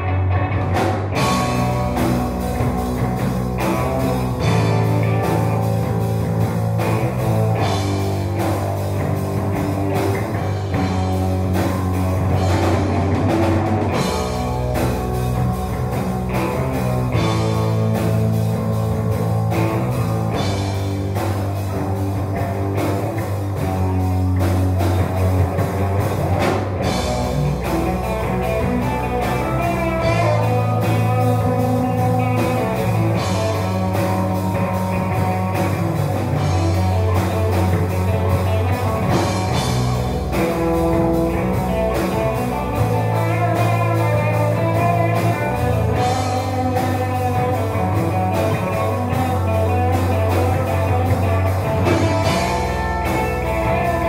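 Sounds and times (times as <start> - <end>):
heavy bass line: 0.0 - 54.0
rock band playing live: 0.0 - 54.0.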